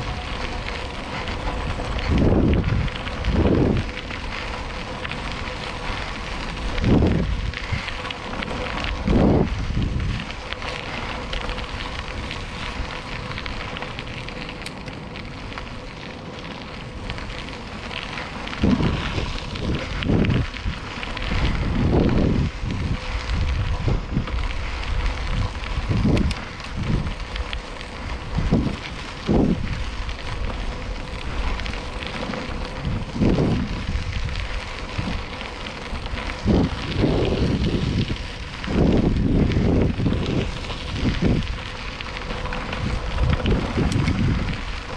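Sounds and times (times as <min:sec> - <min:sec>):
bicycle tyres rolling on gravel: 0:00.0 - 0:44.9
wind buffeting microphone: 0:00.0 - 0:44.9.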